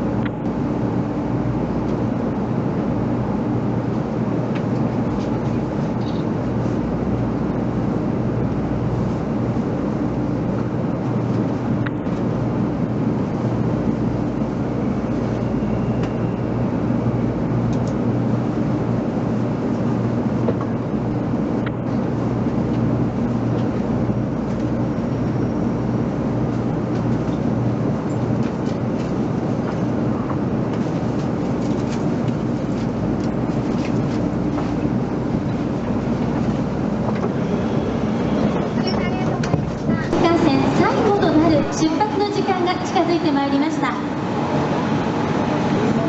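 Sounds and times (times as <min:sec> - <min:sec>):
train humming at platform: 0:00.0 - 0:46.0.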